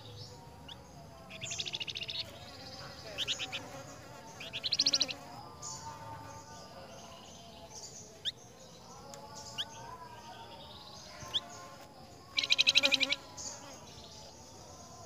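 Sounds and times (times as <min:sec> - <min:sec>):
faint background birdsong: 0:00.0 - 0:15.0
songbird trill: 0:00.0 - 0:15.0.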